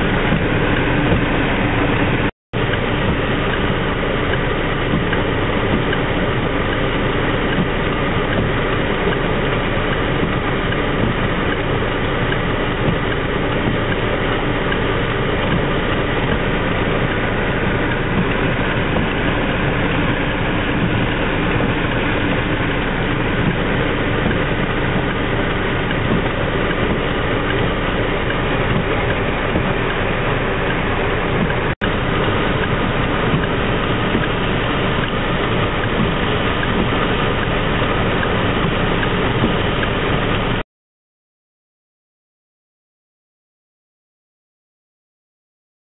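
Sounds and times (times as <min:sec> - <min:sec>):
car engine running: 0:00.0 - 0:40.6
rain and wet road noise: 0:00.0 - 0:40.6.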